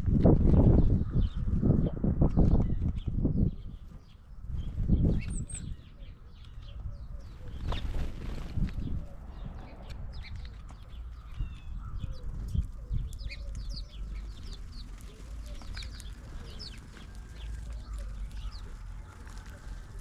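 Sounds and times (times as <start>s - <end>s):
small birds chirping: 0.6s - 20.0s.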